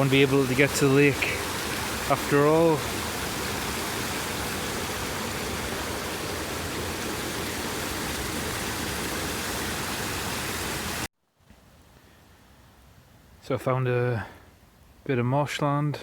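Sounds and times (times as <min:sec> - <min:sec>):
steady hiss of running water: 0:00.0 - 0:15.7.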